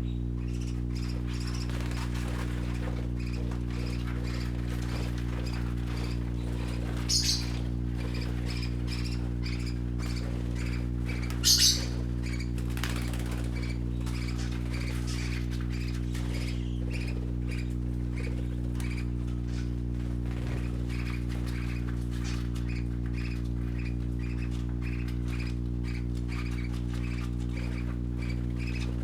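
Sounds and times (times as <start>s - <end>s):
parakeets chirping: 0.0s - 29.0s
sharp bird calls: 0.0s - 29.0s
steady low hum: 0.0s - 29.0s.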